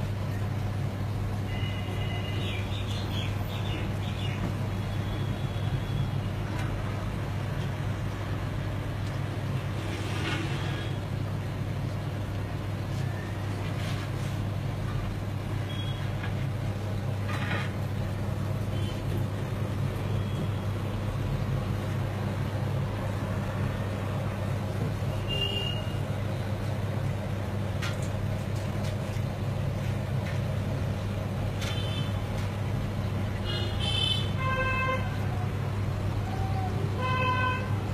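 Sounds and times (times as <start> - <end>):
aquarium pump hum: 0.0 - 37.9.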